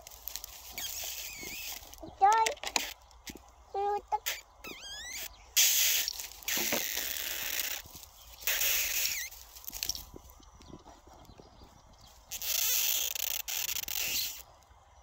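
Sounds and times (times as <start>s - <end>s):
dry twigs crackling and crunching: 0.0s - 3.7s, 6.0s - 14.5s.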